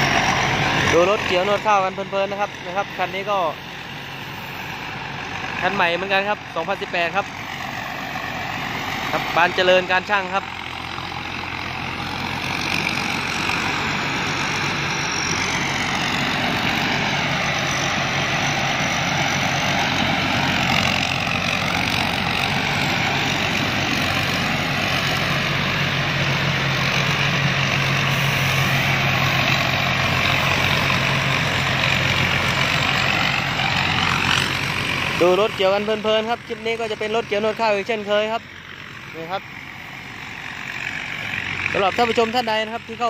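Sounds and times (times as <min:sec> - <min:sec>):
combine harvester engine hum: 0:00.0 - 0:43.0
threshing machinery noise: 0:00.0 - 0:43.0.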